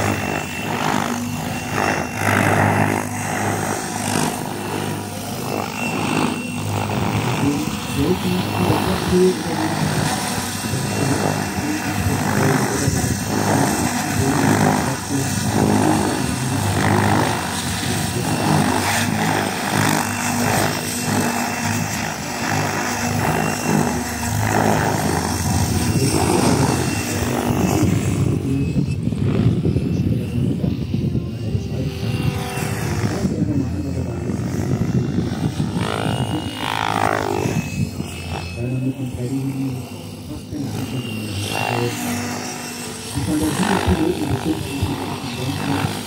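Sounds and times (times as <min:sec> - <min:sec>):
model helicopter rotor hum: 0:00.0 - 0:46.0.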